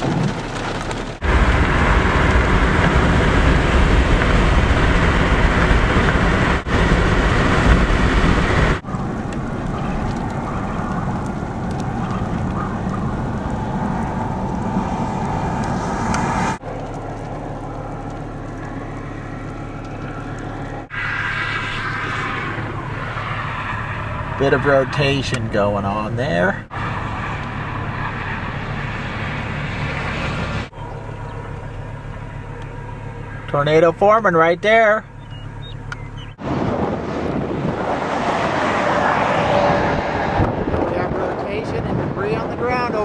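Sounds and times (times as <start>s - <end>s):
rushing wind: 0.0s - 33.5s, 35.0s - 43.0s
vehicle noise: 0.0s - 43.0s.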